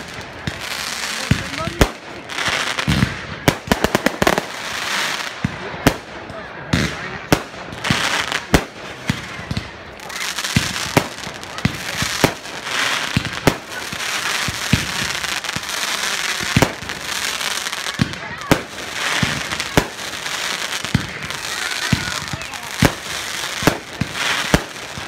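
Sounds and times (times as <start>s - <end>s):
fireworks banging: 0.0s - 25.0s
fireworks hissing and crackling: 0.0s - 25.0s.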